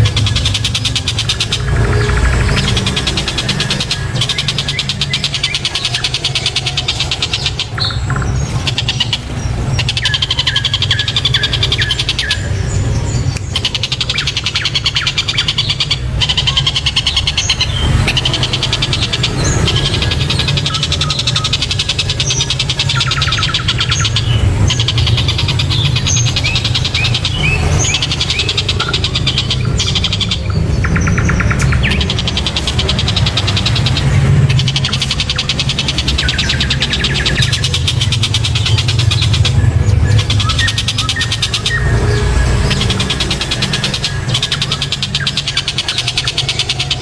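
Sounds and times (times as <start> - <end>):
bird harsh chattering calls: 0.0 - 47.0.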